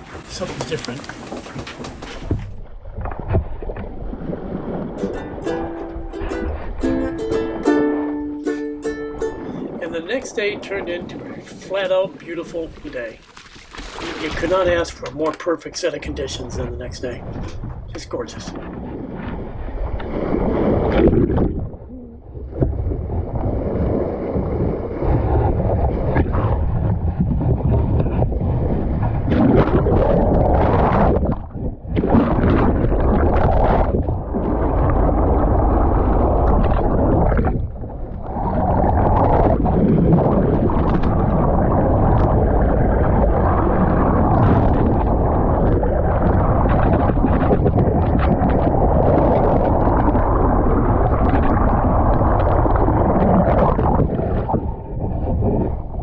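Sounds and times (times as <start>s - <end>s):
underwater water rushing past hull: 0.0s - 56.0s.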